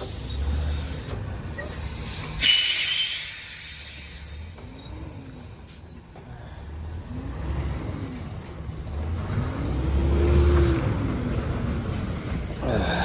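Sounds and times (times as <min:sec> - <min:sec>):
truck engine revving: 0:00.0 - 0:05.8, 0:06.6 - 0:13.0.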